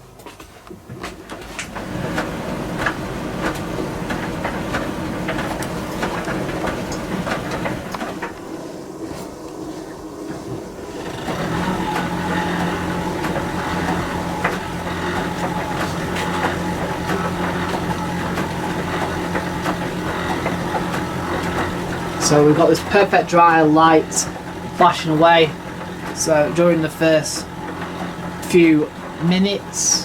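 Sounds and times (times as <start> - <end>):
clothes tumbling in dryer drum: 0.0 - 30.0
dryer machine hum: 0.0 - 30.0.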